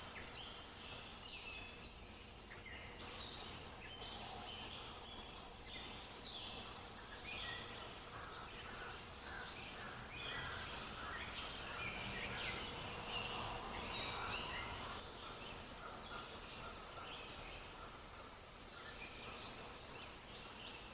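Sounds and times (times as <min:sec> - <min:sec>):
small birds chirping: 0:00.0 - 0:20.9
steady background hiss: 0:00.0 - 0:20.9.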